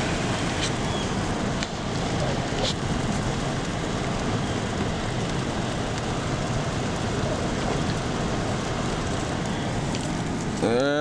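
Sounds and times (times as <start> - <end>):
tyres on slushy road: 0.0 - 11.0.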